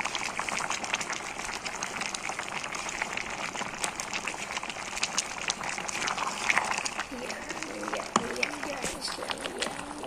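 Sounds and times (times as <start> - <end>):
stew bubbling in a pot: 0.0 - 10.0.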